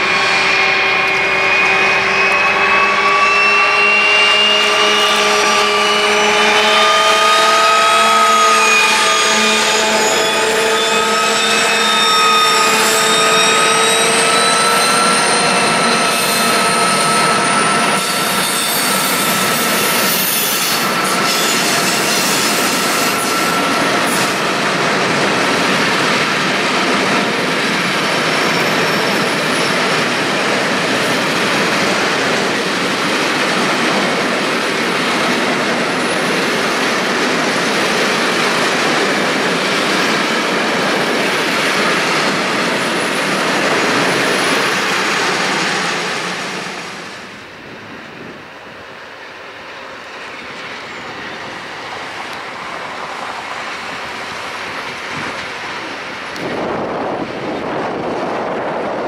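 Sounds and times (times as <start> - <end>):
diesel locomotive engine whining: 0.0 - 59.0
train wagons rolling on rails: 0.0 - 59.0.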